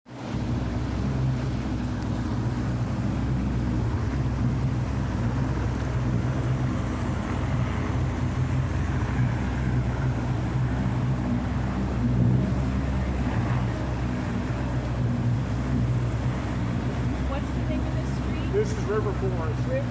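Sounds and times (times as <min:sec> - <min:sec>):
motorboat engine humming: 0:00.1 - 0:19.9.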